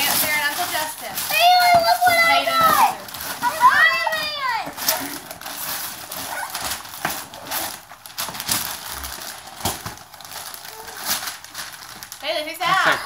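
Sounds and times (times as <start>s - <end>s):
wrapping paper tearing and crinkling: 0.0s - 13.0s.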